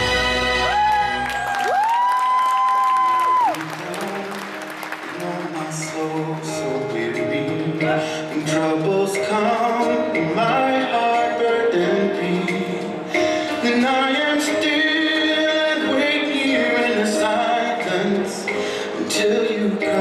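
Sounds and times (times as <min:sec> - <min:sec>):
dance music instruments: 0:00.0 - 0:20.0
man and woman singing: 0:03.3 - 0:20.0.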